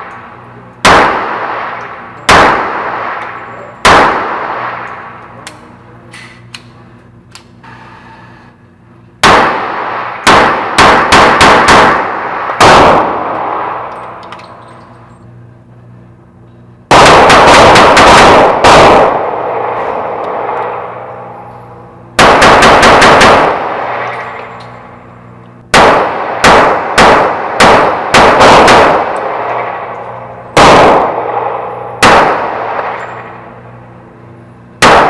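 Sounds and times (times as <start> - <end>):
pistol shots echoing indoors: 0.8 - 6.8, 9.2 - 15.2, 16.9 - 35.0.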